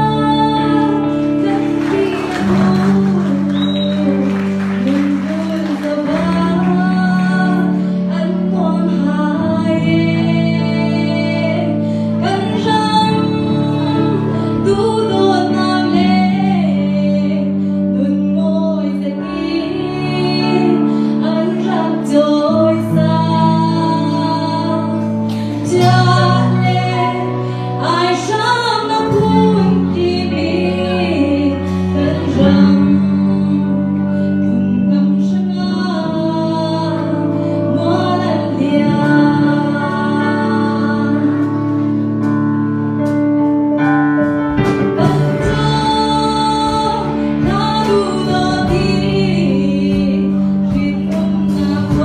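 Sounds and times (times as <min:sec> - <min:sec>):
woman singing: 0:00.0 - 0:42.4, 0:43.0 - 0:52.0
live band with guitars and keyboard: 0:00.0 - 0:52.0.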